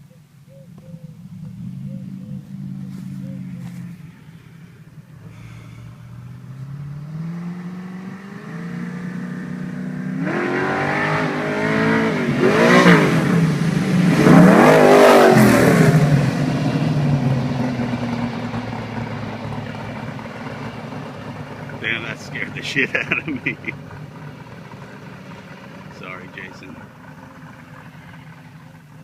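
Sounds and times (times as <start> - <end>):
race car engine accelerating: 0.7 - 29.0.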